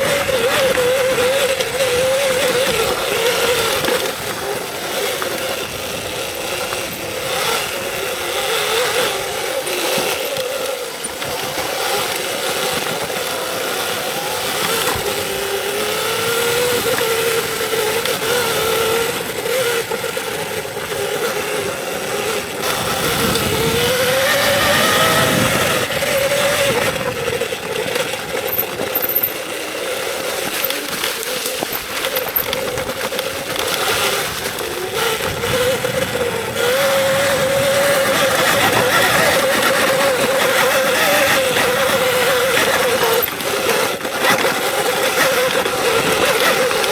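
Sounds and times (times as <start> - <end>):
electric motor whining: 0.0 - 46.9.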